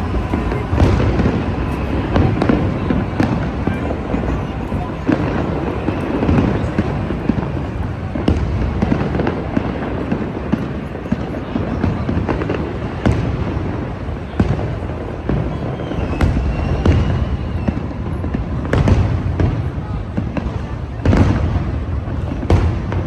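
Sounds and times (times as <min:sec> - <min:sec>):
distant fireworks rumble: 0:00.0 - 0:23.0
fireworks cracks and bangs: 0:00.0 - 0:23.0.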